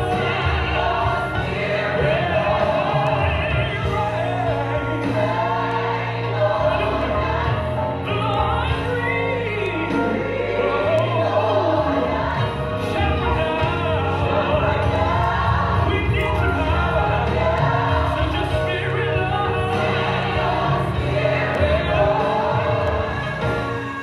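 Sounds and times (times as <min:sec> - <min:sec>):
gospel choir singing: 0:00.0 - 0:24.0.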